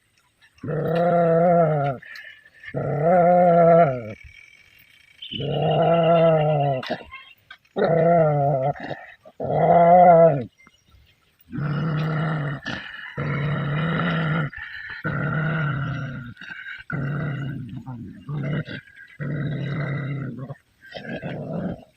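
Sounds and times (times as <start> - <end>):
dog growling and barking: 0.6 - 4.2, 5.4 - 7.0, 7.8 - 10.5, 11.5 - 21.9.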